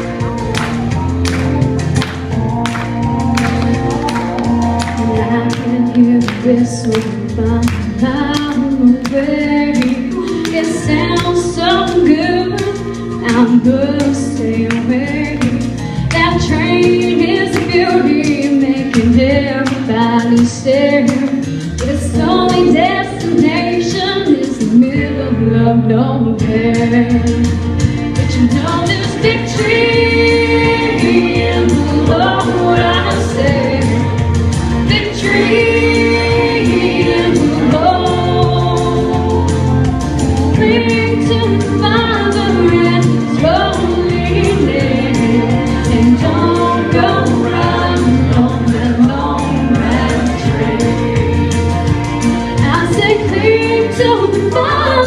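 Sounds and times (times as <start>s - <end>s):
instrumental accompaniment with bass: 0.0s - 55.0s
woman singing into microphone: 3.7s - 51.6s, 52.4s - 55.0s.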